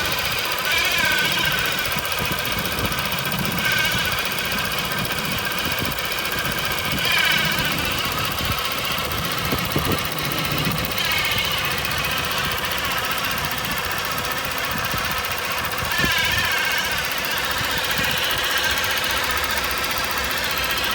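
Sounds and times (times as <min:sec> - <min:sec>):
car engine running: 0:00.0 - 0:20.9
screeching grinding noise: 0:00.0 - 0:20.9.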